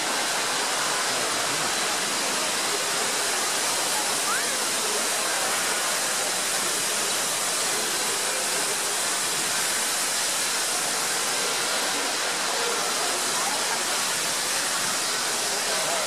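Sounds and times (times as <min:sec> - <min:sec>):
pressure washer jet spraying on stone: 0:00.4 - 0:16.0.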